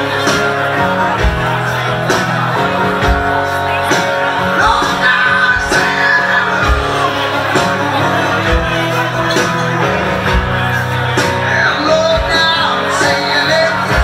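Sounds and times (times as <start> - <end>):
acoustic guitar: 0.0 - 14.0
live country band music: 0.0 - 14.0.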